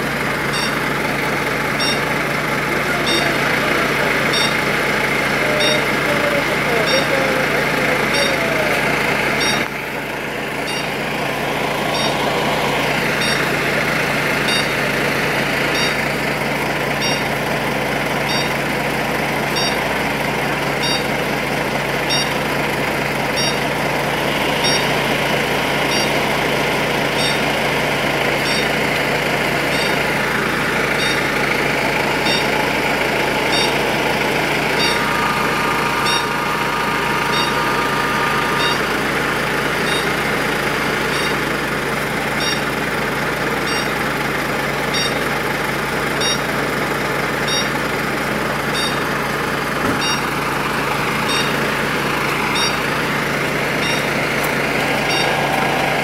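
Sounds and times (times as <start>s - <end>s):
fire engines idling: 0.0s - 56.0s
steady whine: 0.0s - 56.0s.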